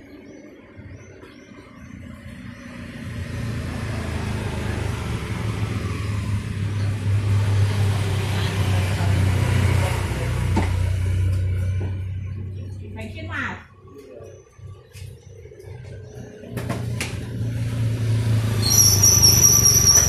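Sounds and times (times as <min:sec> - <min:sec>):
road noise: 0:00.0 - 0:20.0
vehicle engine hum: 0:00.0 - 0:20.0.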